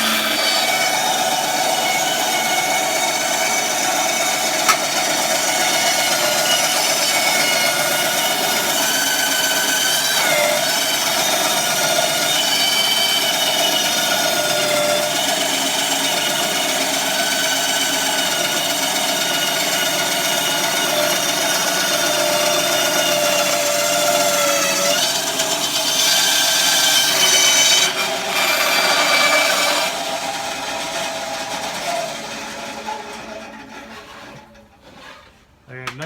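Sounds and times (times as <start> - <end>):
band saw cutting plywood: 0.0 - 35.4.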